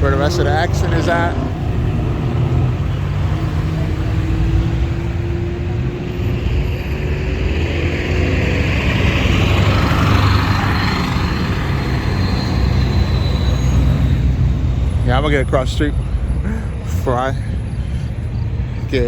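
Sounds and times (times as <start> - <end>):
car engines passing: 0.0 - 19.0.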